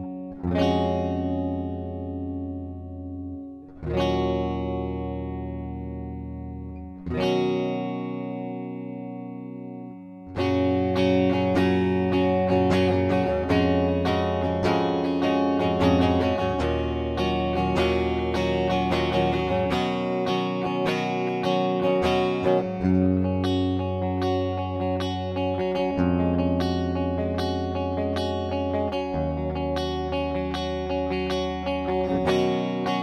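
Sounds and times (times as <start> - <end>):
distorted electric guitar: 0.0 - 33.0.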